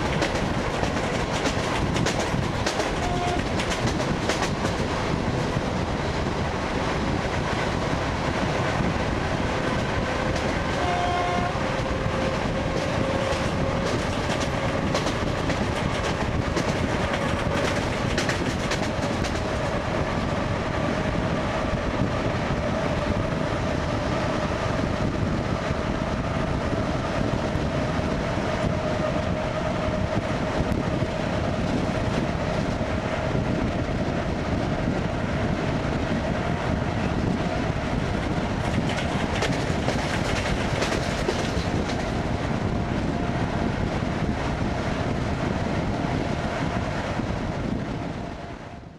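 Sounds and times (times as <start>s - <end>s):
train running on rails: 0.0s - 48.9s.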